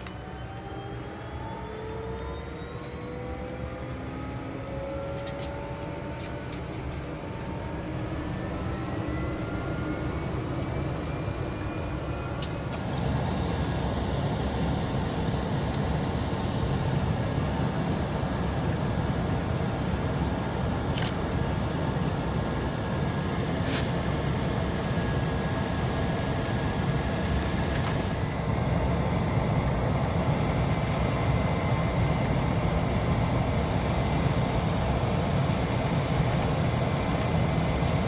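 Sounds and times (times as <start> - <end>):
turboprop engine whine in cabin: 0.0 - 38.0.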